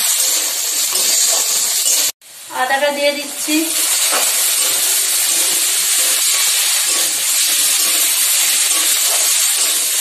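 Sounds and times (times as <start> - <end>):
spatula stirring: 0.0 - 2.2, 3.8 - 10.0
food sizzling in hot oil: 0.0 - 10.0.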